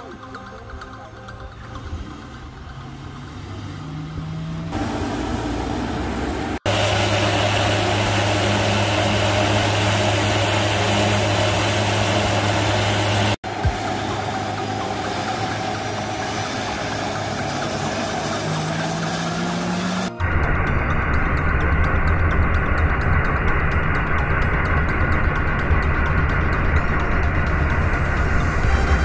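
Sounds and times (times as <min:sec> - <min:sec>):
engine running with low hum: 0:00.2 - 0:29.0.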